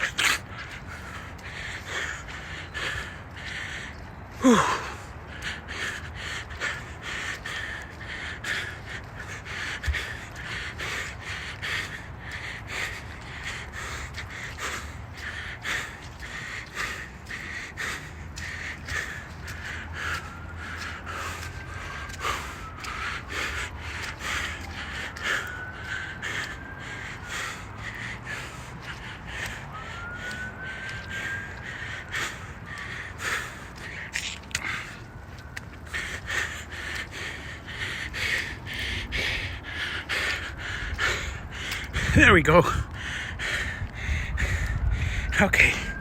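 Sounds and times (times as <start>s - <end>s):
person panting hard: 0.0s - 46.0s.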